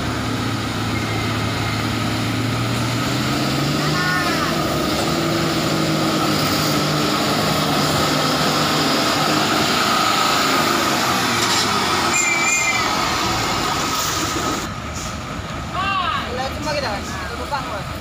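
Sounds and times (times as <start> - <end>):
truck diesel engine under load: 0.0 - 18.0.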